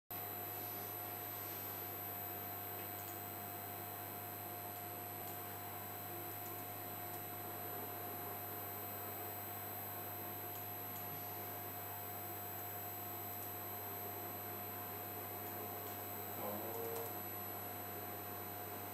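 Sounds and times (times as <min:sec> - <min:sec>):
electrical hum: 0:00.1 - 0:18.9.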